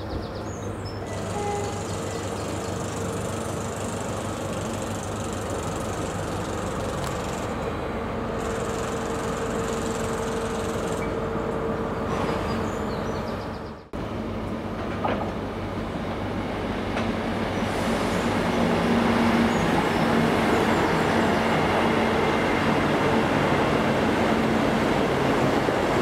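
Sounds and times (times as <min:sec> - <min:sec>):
train engine hum: 0:00.0 - 0:26.0
train wheels on rail: 0:00.2 - 0:26.0.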